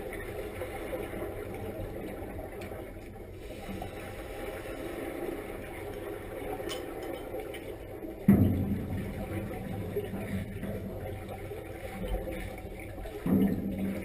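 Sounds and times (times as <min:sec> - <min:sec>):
exhaust bubbles bubbling: 0:00.0 - 0:14.0
underwater rumble: 0:00.0 - 0:14.0.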